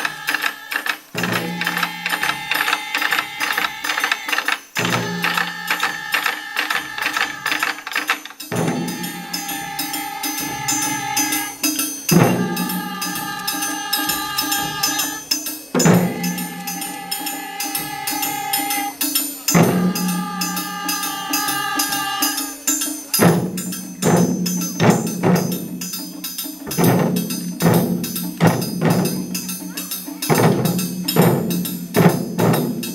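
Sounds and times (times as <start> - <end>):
clacking jingling hand percussion: 0.0 - 32.9
taiko drum strikes: 0.0 - 32.9.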